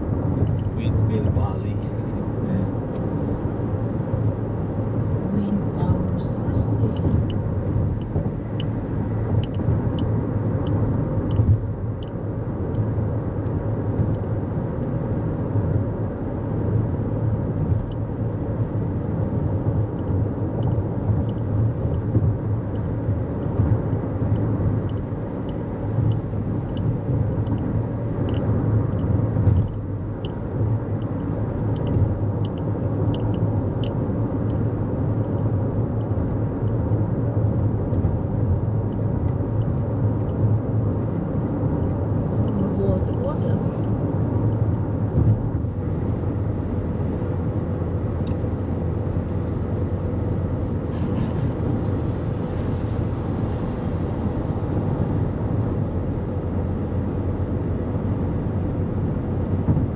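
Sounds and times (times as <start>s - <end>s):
tyre and road rumble: 0.0s - 59.9s.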